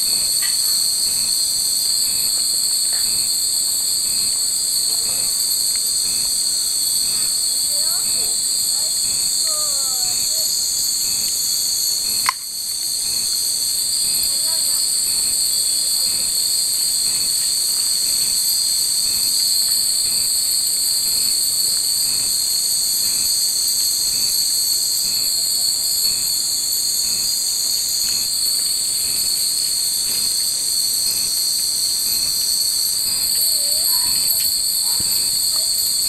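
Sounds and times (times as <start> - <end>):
cicadas chorus: 0.0 - 36.0.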